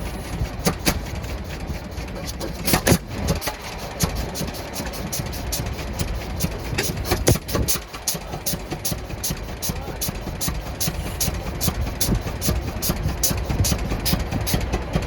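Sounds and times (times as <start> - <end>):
antique engine running: 0.0 - 15.0.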